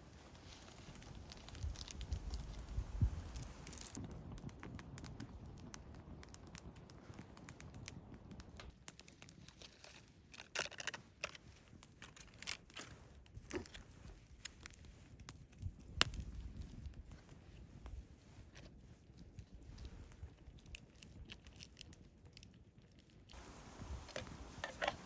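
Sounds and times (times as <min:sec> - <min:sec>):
fire pops and snaps: 0:00.0 - 0:25.0
wood fire crackling: 0:00.0 - 0:25.0.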